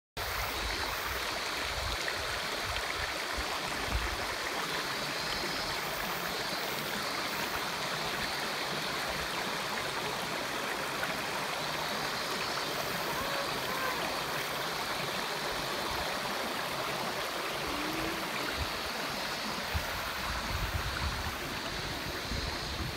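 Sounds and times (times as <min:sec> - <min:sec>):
river water flowing over stones: 0:00.2 - 0:22.9.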